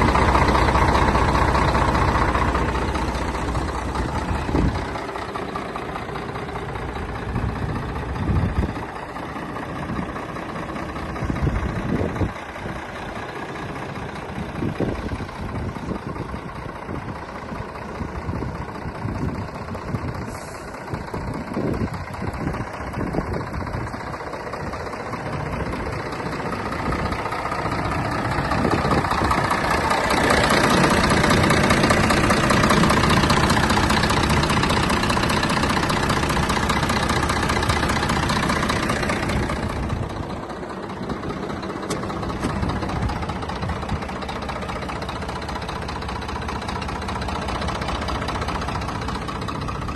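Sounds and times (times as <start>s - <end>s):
diesel truck engine idling and revving: 0.0s - 49.9s.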